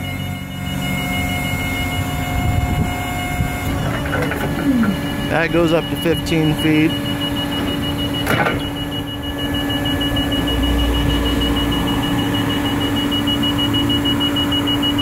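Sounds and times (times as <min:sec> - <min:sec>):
forklift hum: 0:00.0 - 0:15.0
high-pitched beeping alarm: 0:00.0 - 0:15.0.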